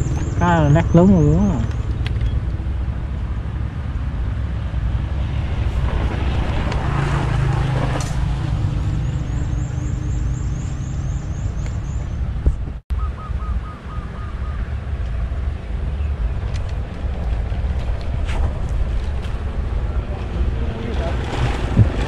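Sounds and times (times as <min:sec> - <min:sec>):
motor vehicle passing: 0:00.0 - 0:12.4, 0:13.8 - 0:22.0
steady low rumble: 0:00.0 - 0:22.0.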